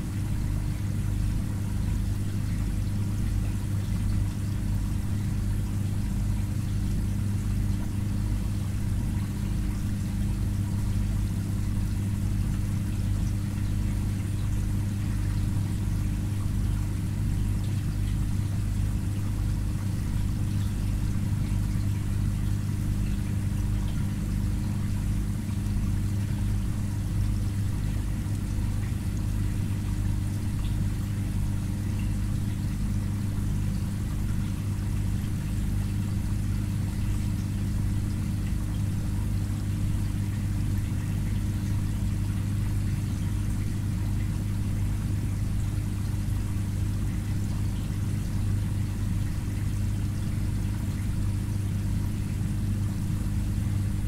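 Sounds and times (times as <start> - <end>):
aquarium pump humming: 0.0 - 54.0
water trickling: 0.0 - 54.0.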